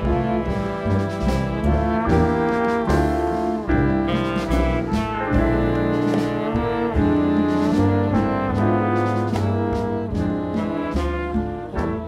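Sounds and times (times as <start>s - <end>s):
brass and saxophones: 0.0s - 12.0s
low bass notes: 0.0s - 12.0s
piano: 0.0s - 12.0s.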